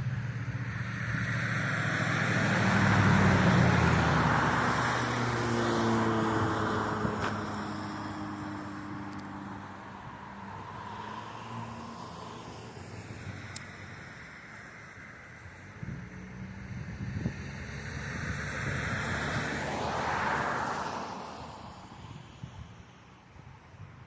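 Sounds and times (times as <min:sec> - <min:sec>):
car passing: 0:00.0 - 0:23.8.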